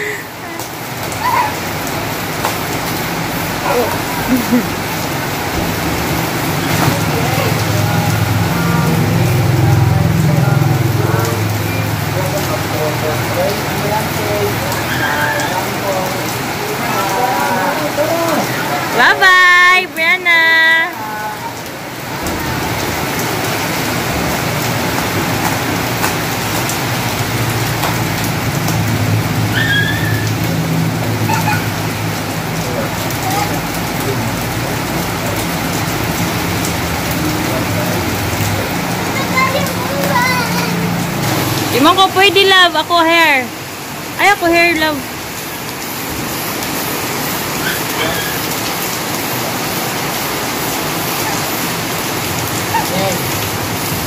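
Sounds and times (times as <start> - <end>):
rain on concrete: 0.0 - 54.0.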